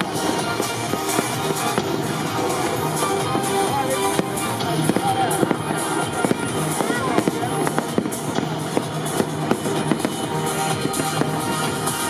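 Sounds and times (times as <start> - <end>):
fireworks bursting and crackling: 0.0 - 12.0
music playing: 0.0 - 12.0.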